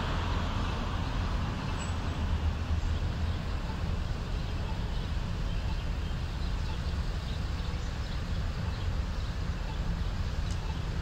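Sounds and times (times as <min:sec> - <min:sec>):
steady low street rumble: 0:00.0 - 0:11.0.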